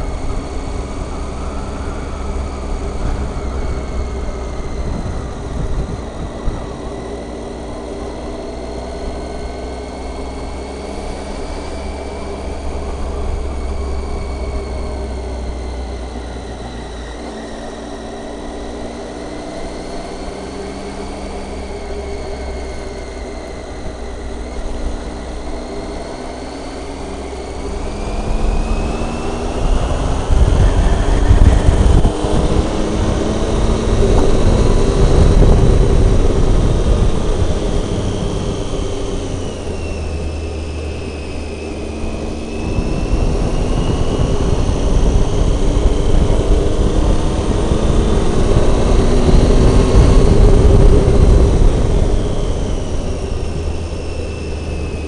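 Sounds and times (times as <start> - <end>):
motorcycle engine running: 0.0 - 55.0
wind on microphone: 0.0 - 55.0.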